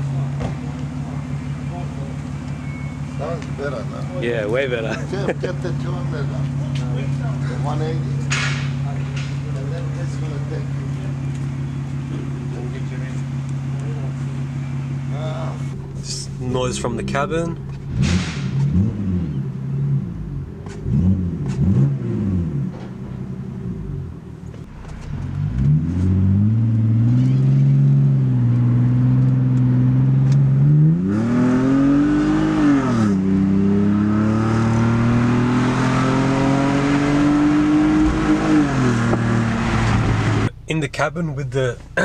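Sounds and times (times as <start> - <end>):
car engine revving and accelerating: 0.0 - 40.5.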